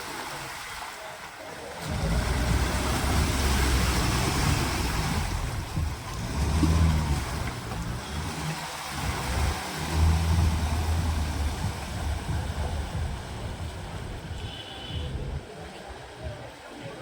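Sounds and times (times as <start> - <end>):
off-road vehicle engine rumbling: 1.7 - 17.0
wind noise on microphone: 1.9 - 16.9.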